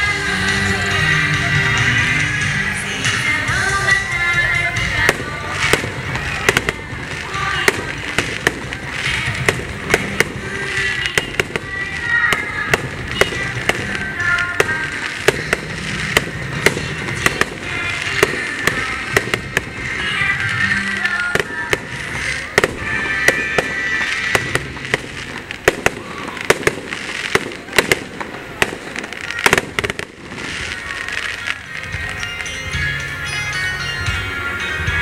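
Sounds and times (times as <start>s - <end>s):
fireworks bangs: 0.0s - 32.6s.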